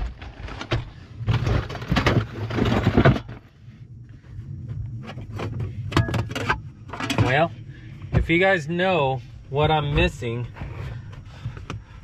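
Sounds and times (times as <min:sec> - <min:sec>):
steady low rumble: 0:00.1 - 0:12.0.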